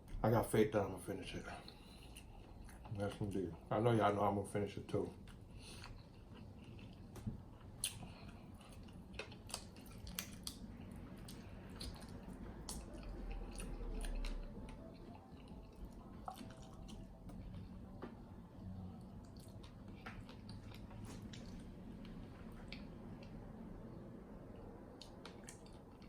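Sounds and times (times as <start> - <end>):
person chewing wet food: 1.5 - 3.5, 5.1 - 26.0.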